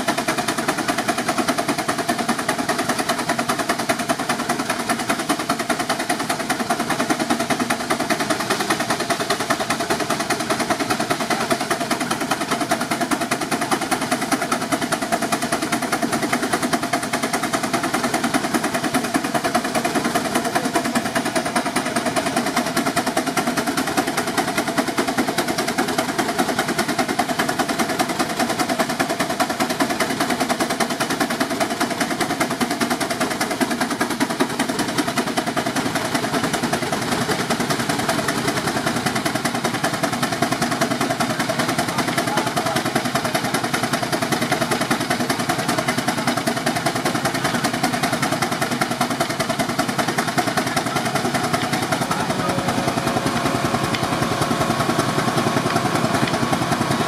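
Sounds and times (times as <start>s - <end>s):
steam engine exhaust beats: 0.0s - 57.0s.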